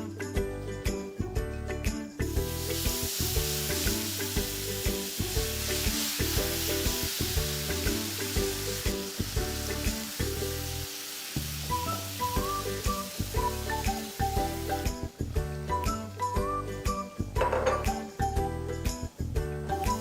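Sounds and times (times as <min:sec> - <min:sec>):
background music: 0:00.0 - 0:20.0
sauce sizzling in frying pan: 0:02.2 - 0:20.0.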